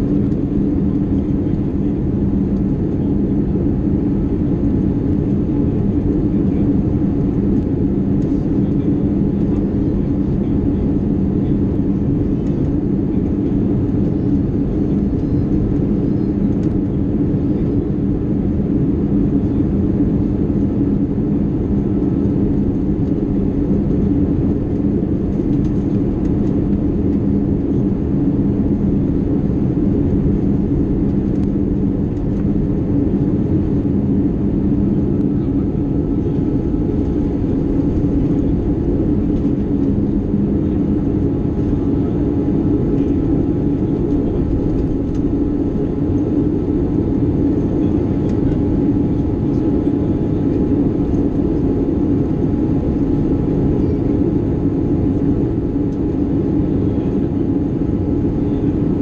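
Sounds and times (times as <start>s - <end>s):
airplane cabin engine drone: 0.0s - 59.0s
low hum: 0.0s - 59.0s.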